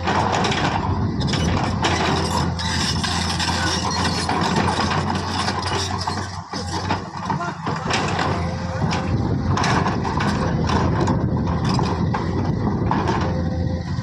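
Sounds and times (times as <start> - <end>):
metallic clatter and rattling: 0.0 - 13.4
diesel engine running: 0.0 - 14.0.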